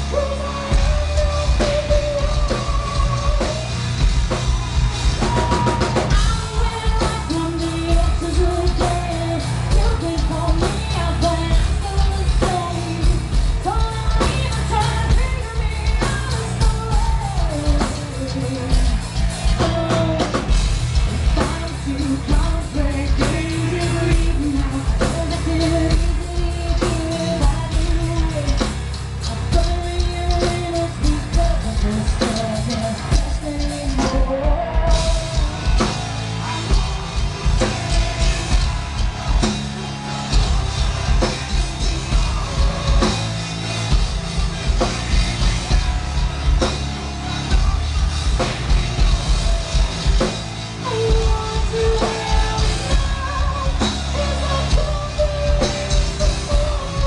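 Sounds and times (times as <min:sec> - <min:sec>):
woman singing: 0:00.0 - 0:39.5, 0:49.4 - 0:57.0
live metal band playing: 0:00.0 - 0:57.0.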